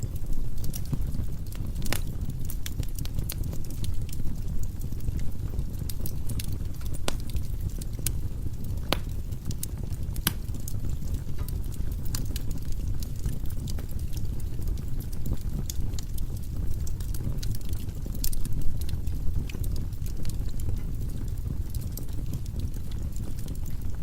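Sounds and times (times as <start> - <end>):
firewood crackling and popping: 0.0 - 24.0
low rumble of flames: 0.0 - 24.0.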